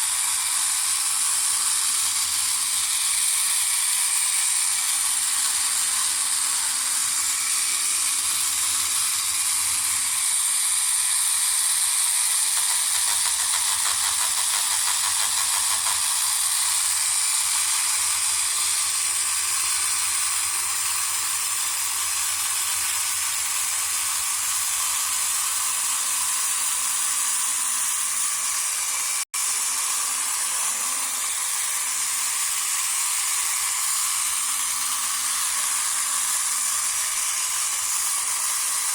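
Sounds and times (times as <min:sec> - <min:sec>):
toy motor and gears whirring: 0:00.0 - 0:38.9.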